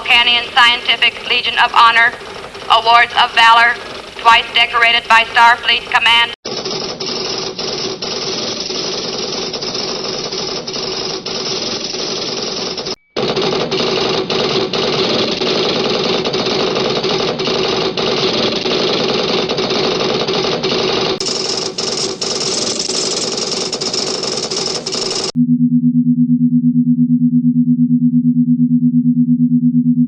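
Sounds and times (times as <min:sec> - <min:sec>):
machinery chattering: 0:00.0 - 0:25.4.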